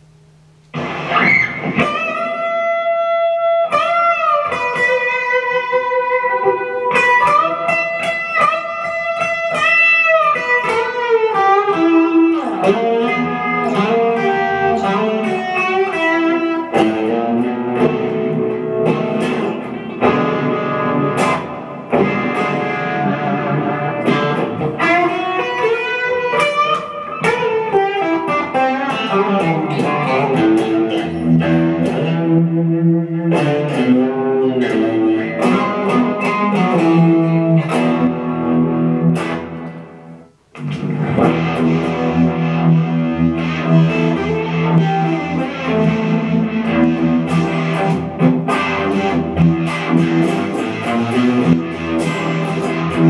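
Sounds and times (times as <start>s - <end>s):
electric guitar playing: 0.0s - 53.0s.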